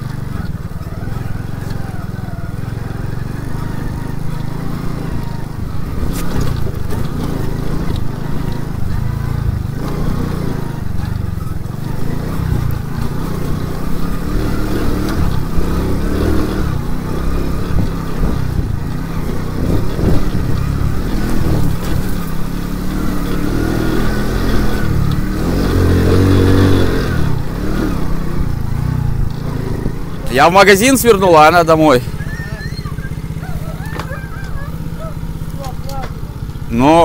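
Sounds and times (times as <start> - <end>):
moped engine revving: 0.0 - 37.0.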